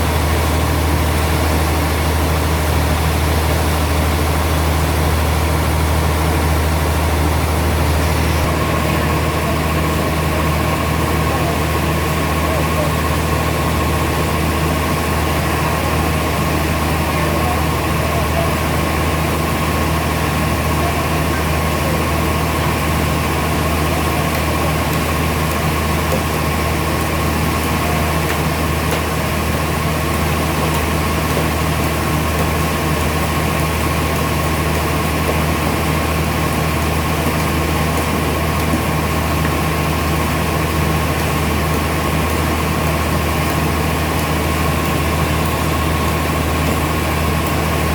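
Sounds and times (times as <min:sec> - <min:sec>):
sawmill machinery hum and whine: 0:00.0 - 0:47.9.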